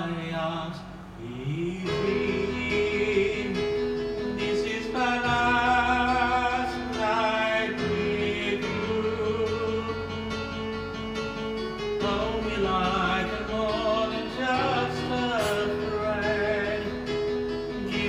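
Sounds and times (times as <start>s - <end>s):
slow instrumental accompaniment: 0.9s - 18.0s.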